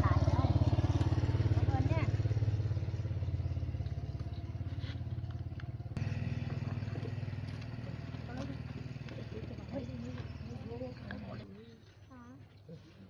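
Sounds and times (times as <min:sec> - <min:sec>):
small engine running: 0:00.0 - 0:11.8.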